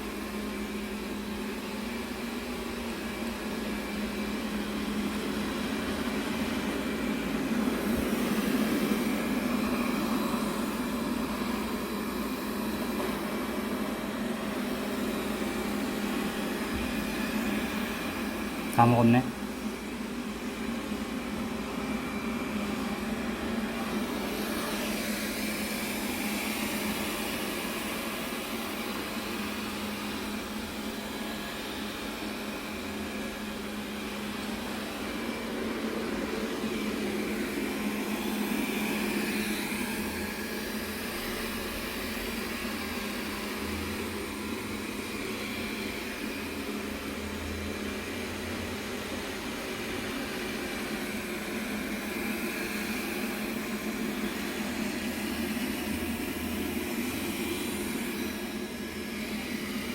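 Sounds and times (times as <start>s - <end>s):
robot vacuum cleaner running: 0.0s - 59.9s.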